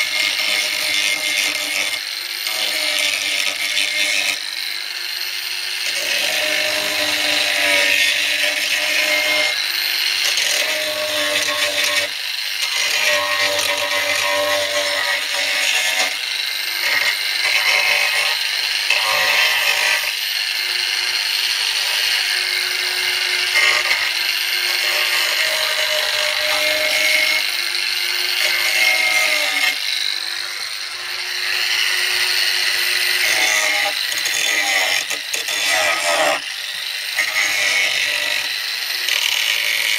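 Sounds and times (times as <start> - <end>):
power sander motor whine: 0.0 - 39.9
harsh scraping rasp: 5.8 - 39.9.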